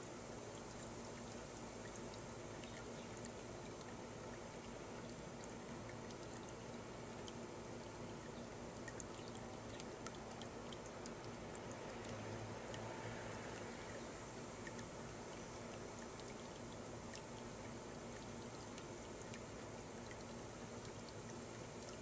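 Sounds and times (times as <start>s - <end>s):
fountain water trickling: 0.0s - 22.0s
small water drips: 0.0s - 22.0s.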